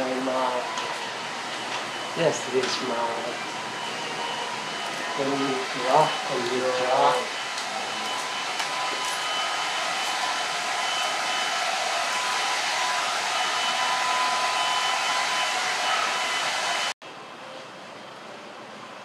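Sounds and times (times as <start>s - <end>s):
blower rushing air: 0.0s - 17.0s.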